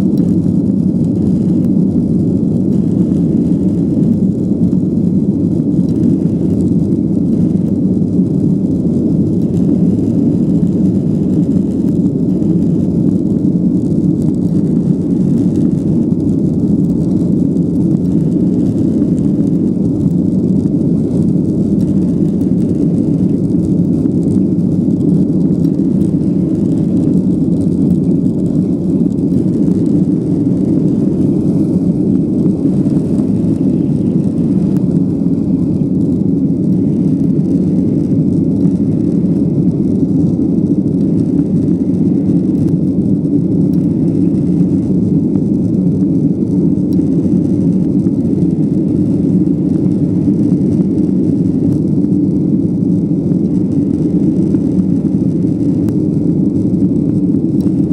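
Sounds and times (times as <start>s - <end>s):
jet engines at takeoff thrust: 0.0s - 57.9s.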